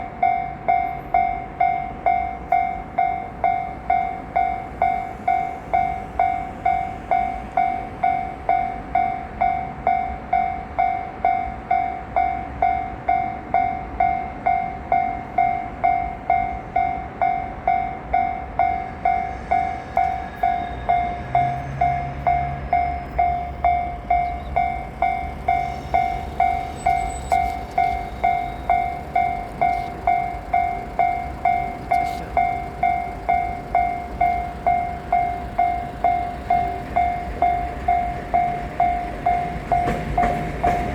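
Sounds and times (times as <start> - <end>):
level-crossing warning bell ringing: 0.0 - 40.9.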